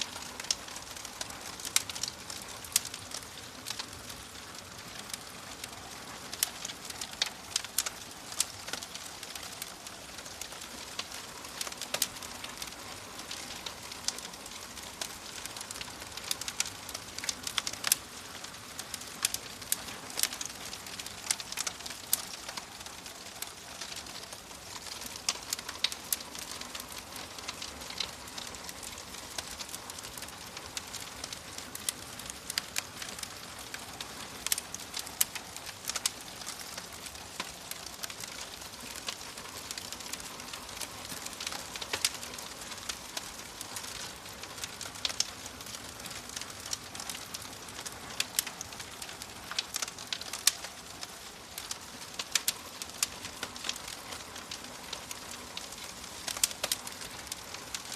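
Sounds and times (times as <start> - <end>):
fire crackling and popping: 0.0 - 57.9.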